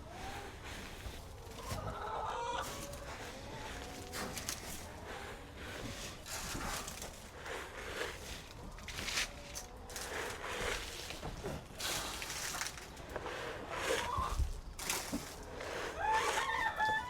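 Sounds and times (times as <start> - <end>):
crunching and rustling: 0.0 - 17.0.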